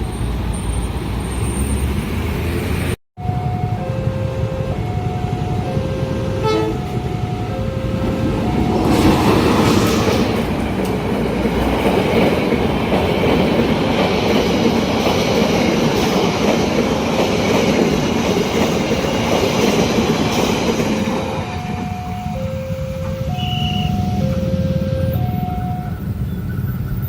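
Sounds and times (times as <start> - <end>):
crossing warning bell: 3.2 - 27.0
train wheels rumbling over rails: 3.2 - 27.0.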